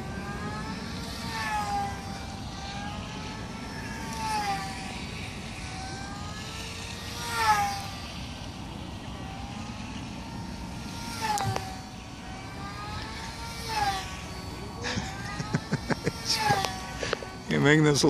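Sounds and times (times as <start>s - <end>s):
rc plane propeller whine passing: 0.0s - 18.0s.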